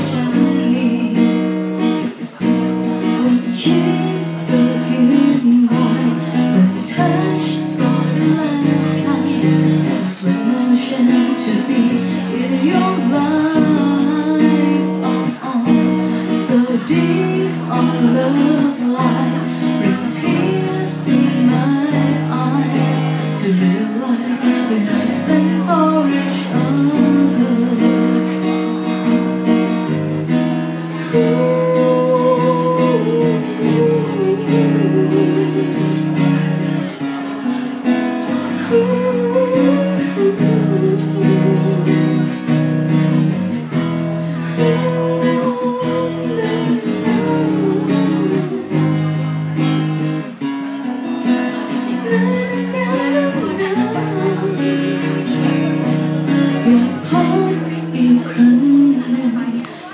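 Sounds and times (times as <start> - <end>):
strummed guitar: 0.0 - 59.9
woman singing into a microphone: 0.0 - 59.9.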